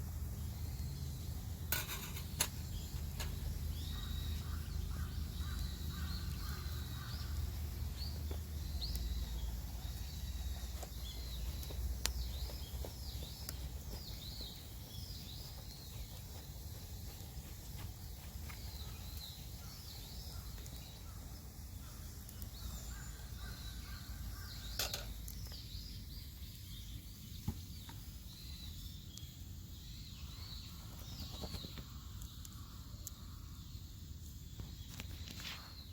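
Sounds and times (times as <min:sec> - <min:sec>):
birds chirping: 0:00.0 - 0:35.9.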